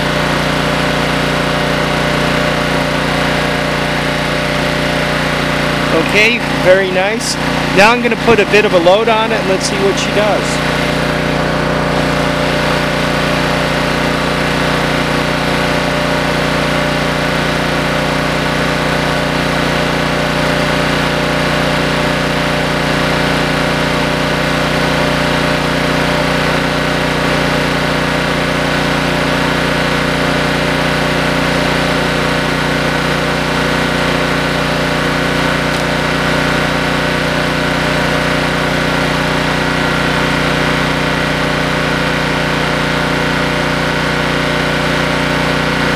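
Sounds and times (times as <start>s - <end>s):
generator engine running: 0.0s - 45.9s.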